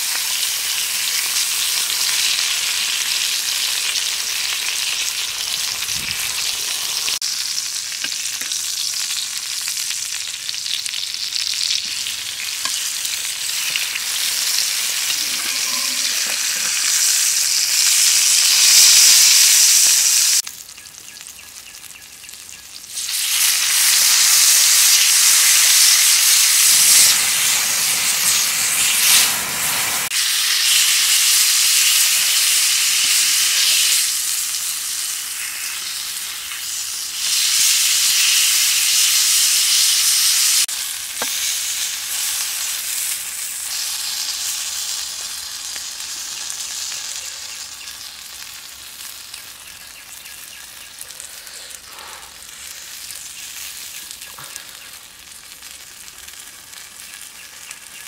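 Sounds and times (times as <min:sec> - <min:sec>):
eggplant sizzling in oil: 0:00.0 - 0:58.0.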